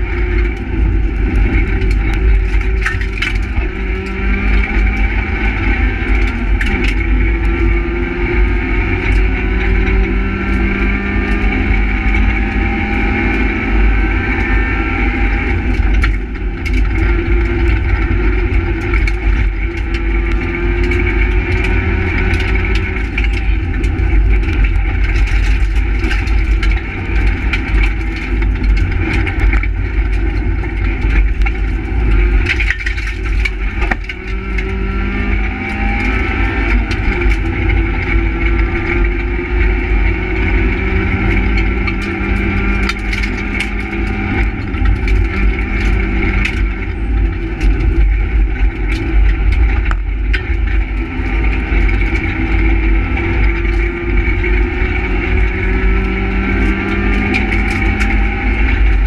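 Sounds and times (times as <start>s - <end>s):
low road rumble: 0.0s - 59.0s
rally car engine revving: 0.0s - 59.0s.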